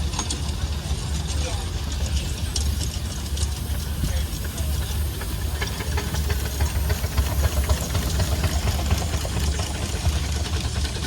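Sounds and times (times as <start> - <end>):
steam traction engines running: 0.0 - 11.0.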